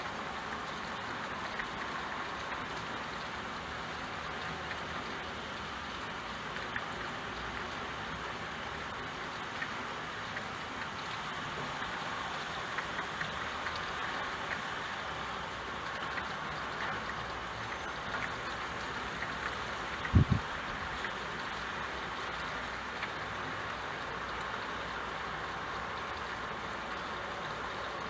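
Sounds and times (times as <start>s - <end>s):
steady rain falling: 0.0s - 28.0s
raindrops ticking: 0.1s - 28.0s.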